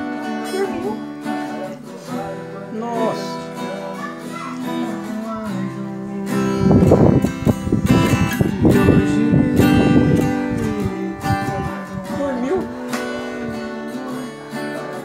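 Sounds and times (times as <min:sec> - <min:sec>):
acoustic guitar: 0:00.0 - 0:15.0.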